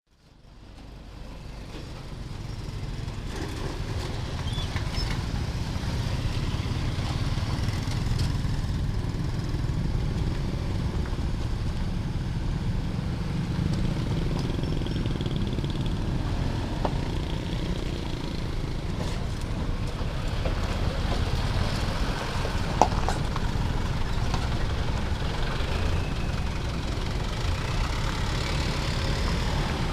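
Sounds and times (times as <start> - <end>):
road traffic engines rumbling: 0.1 - 29.9.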